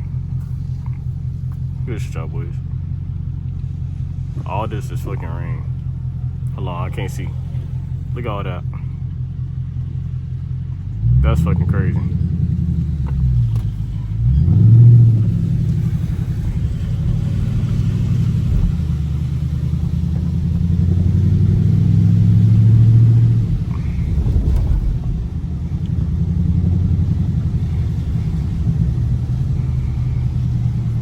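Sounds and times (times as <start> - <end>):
car engine rumbling: 0.0 - 31.0
engine revving: 0.0 - 31.0.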